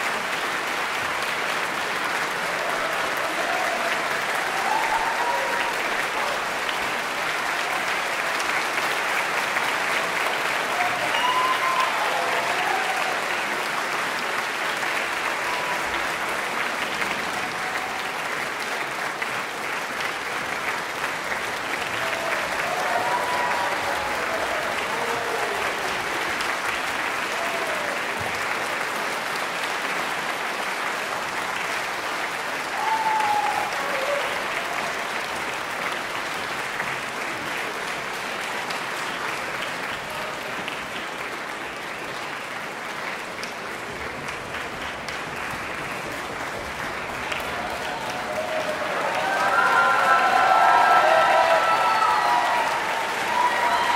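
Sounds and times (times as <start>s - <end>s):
people cheering: 0.0s - 42.2s, 43.0s - 53.9s
audience applauding: 0.0s - 53.9s.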